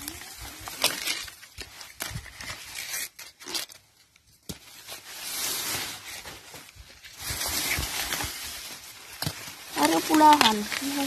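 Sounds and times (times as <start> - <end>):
corn leaves rustling and crackling: 0.0 - 11.0.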